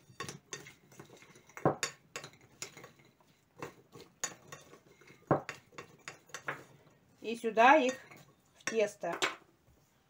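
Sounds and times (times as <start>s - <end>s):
metal spoon clinking against bowl: 0.0s - 6.7s, 7.8s - 9.4s.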